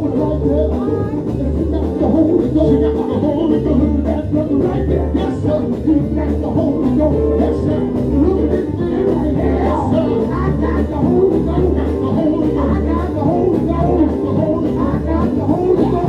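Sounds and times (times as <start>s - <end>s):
gospel band playing live: 0.0s - 16.0s
voices singing: 0.0s - 16.0s.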